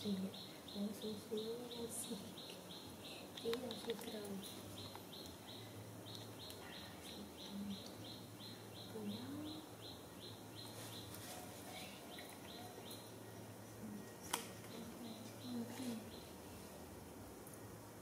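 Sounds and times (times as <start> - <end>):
bird chirping: 0.0 - 16.4
faint low hum: 0.0 - 18.0.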